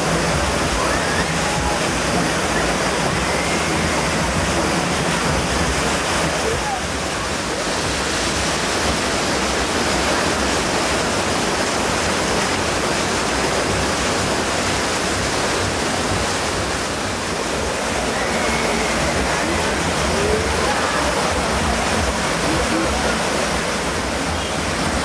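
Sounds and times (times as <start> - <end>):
rushing water in a channel: 0.0 - 25.0.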